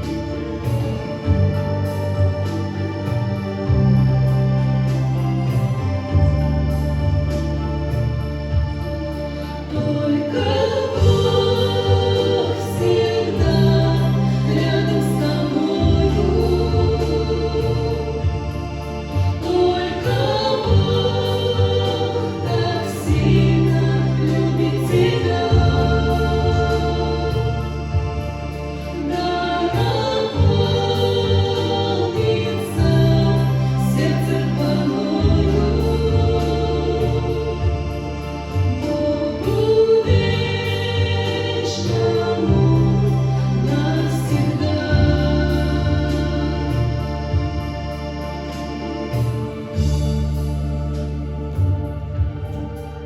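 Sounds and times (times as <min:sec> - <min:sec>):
choir singing a hymn: 0:00.0 - 0:53.0
sustained organ: 0:00.0 - 0:53.0.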